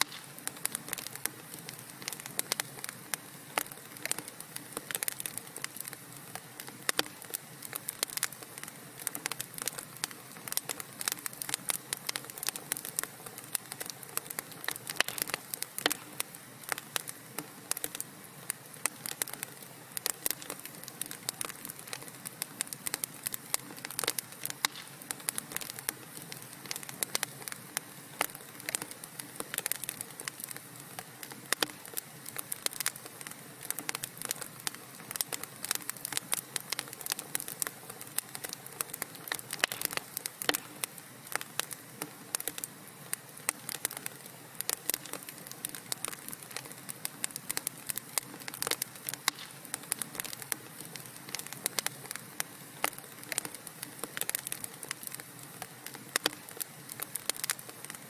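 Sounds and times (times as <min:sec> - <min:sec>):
fire crackling and popping: 0:00.0 - 0:58.0
fire hissing: 0:00.0 - 0:58.0.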